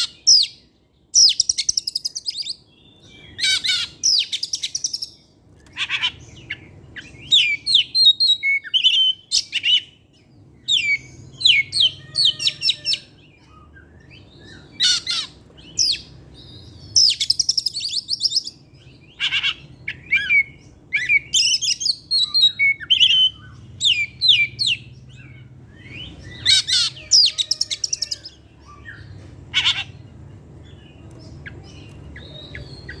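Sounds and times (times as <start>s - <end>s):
bird singing chirps and trills: 0.0s - 33.0s
low steady hum: 0.0s - 33.0s.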